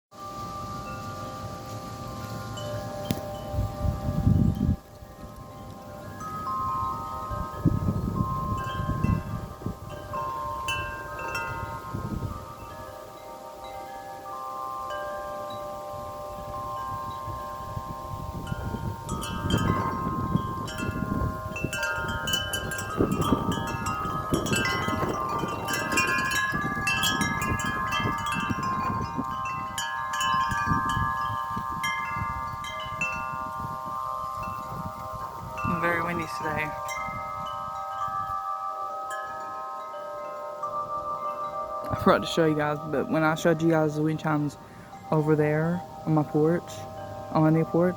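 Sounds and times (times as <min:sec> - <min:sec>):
metal wind chimes ringing: 0:00.1 - 0:47.9
wind buffeting microphone: 0:00.8 - 0:13.3, 0:14.7 - 0:47.9.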